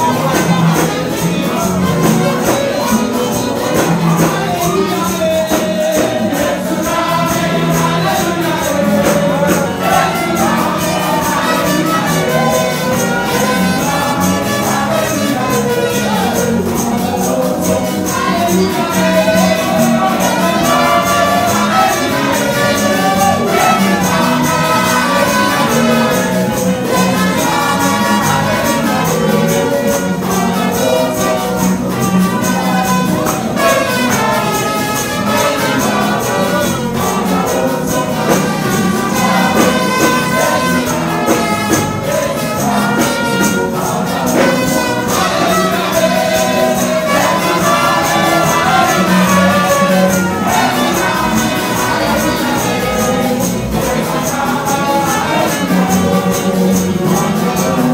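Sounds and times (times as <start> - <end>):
instrumental accompaniment: 0.0 - 57.9
people singing through microphones: 0.0 - 57.9.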